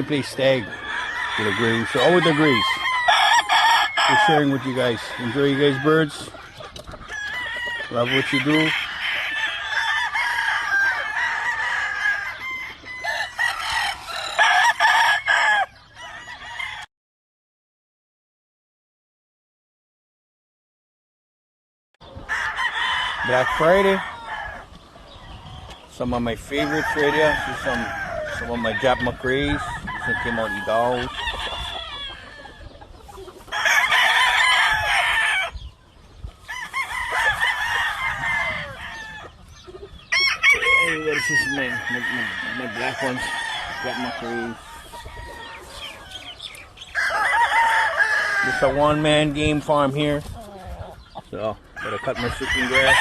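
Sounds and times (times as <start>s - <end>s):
chickens clucking: 0.0s - 16.6s, 22.0s - 53.0s
roosters crowing: 0.0s - 16.9s, 22.0s - 53.0s.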